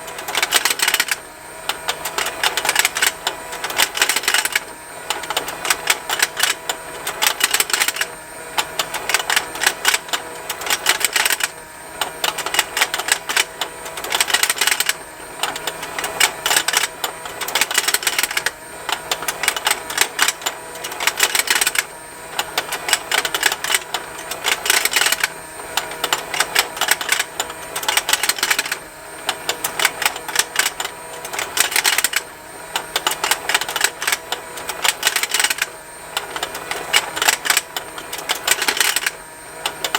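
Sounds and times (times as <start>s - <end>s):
faint motor hum: 0.0s - 39.9s
toy gears ticking: 0.0s - 39.9s.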